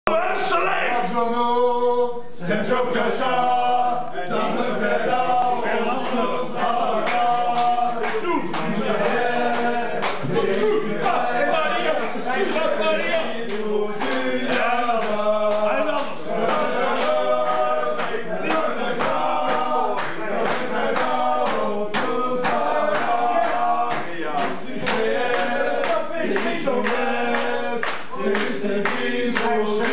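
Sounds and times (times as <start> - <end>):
men chanting together: 0.1 - 29.9
steady beat: 4.4 - 29.9.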